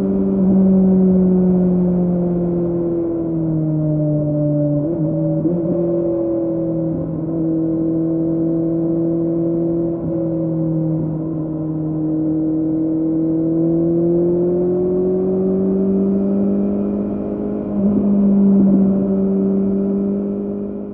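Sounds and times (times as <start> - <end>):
motorcycle engine cruising: 0.0 - 20.9.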